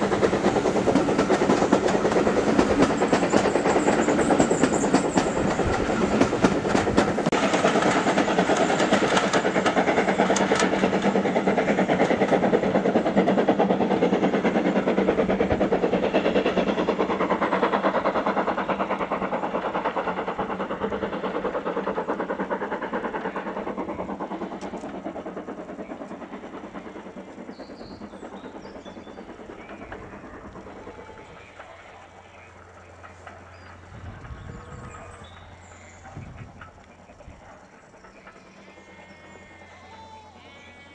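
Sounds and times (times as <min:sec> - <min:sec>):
steam locomotive exhaust beats: 0:00.0 - 0:40.9
train rumble: 0:00.0 - 0:40.9.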